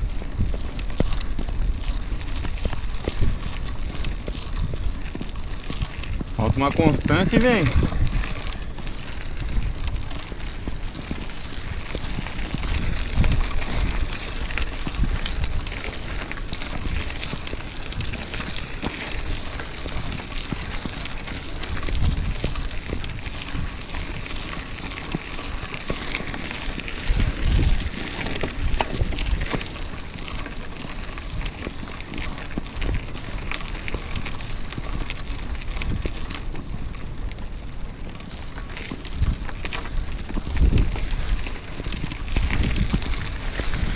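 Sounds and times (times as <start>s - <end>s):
bike tyres crackling on gravel: 0.0s - 43.9s
wind buffeting microphone: 0.0s - 43.9s.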